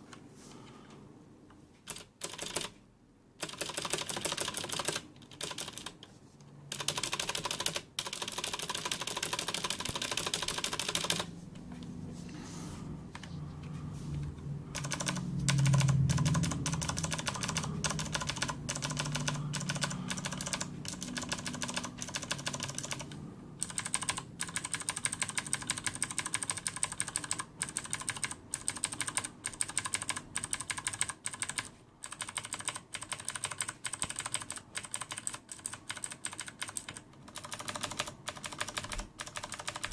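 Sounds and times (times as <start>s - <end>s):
clicky keyboard typing: 1.8s - 2.8s, 3.4s - 6.1s, 6.7s - 11.3s, 14.7s - 39.9s.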